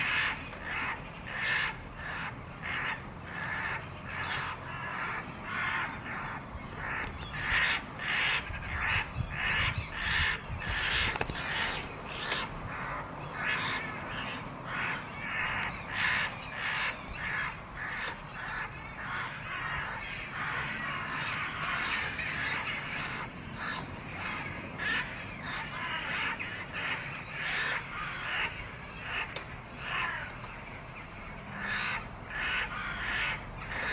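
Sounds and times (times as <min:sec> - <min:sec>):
birds calling: 0:00.0 - 0:33.9.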